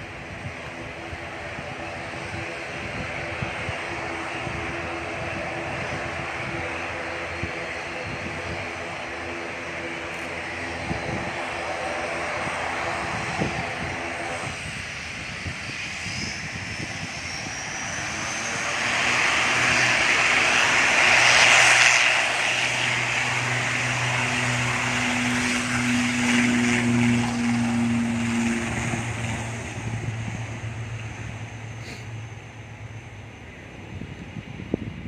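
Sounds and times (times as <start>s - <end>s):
turboprop airliner engines: 0.0s - 35.0s.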